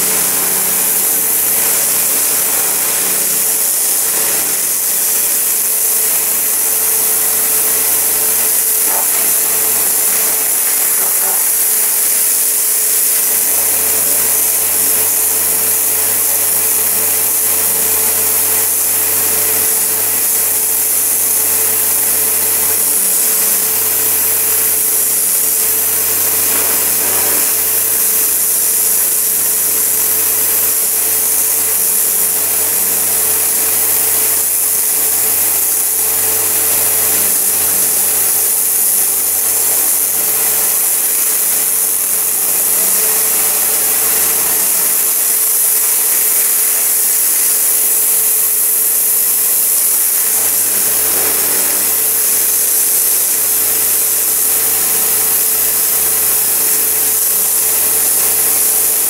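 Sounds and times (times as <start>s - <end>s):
pressure washer motor hum: 0.0s - 59.0s
water jet hissing on brick: 0.0s - 59.0s.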